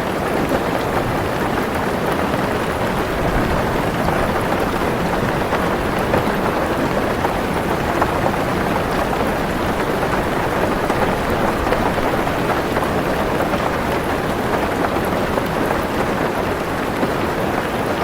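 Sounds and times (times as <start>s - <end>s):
heavy rain on a car roof: 0.0s - 18.0s.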